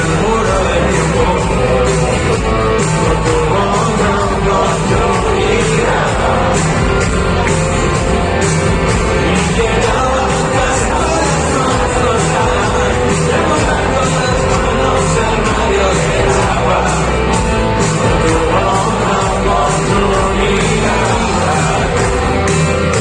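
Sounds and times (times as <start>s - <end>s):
lead singer singing: 0.0s - 23.0s
live rock band playing: 0.0s - 23.0s.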